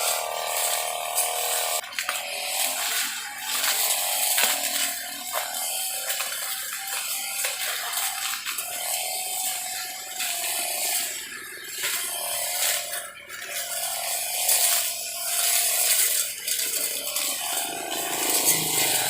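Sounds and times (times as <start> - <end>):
power tool motor whining: 0.0 - 19.0.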